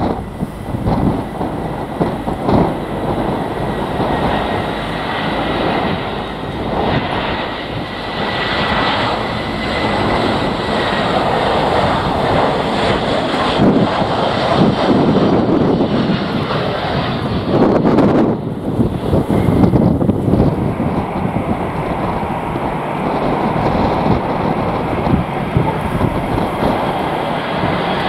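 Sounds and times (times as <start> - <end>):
high engine whine: 0.0 - 28.0
jet engines roaring: 0.0 - 28.0
wind buffeting microphone: 0.0 - 28.0.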